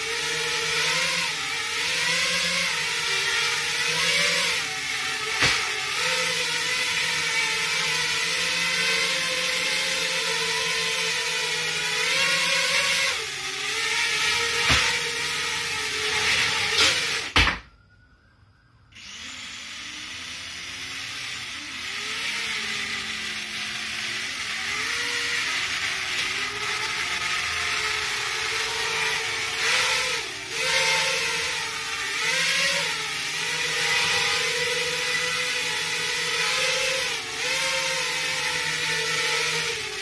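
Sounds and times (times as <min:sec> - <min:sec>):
quadcopter motors whining: 0:00.0 - 0:17.6, 0:18.4 - 0:40.0.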